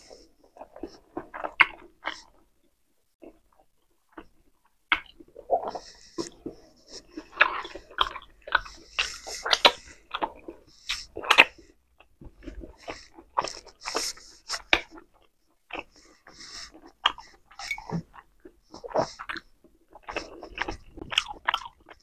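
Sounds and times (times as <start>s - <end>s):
person chewing meat: 0.0s - 2.4s, 3.2s - 22.0s.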